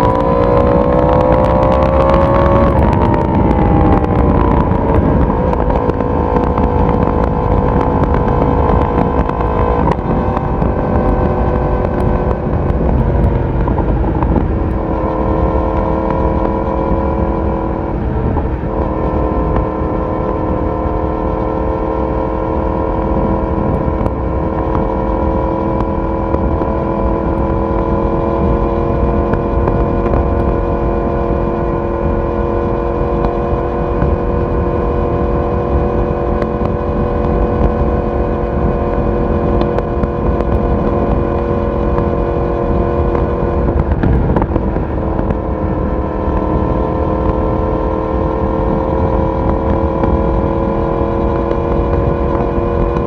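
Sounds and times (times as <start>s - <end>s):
motorcycle engine and exhaust: 0.0s - 53.0s
wind and road noise: 0.0s - 53.0s.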